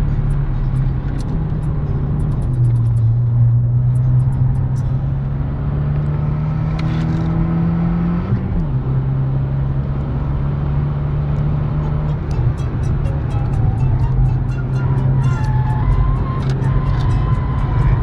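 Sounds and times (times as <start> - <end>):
car engine under load: 0.0 - 18.0.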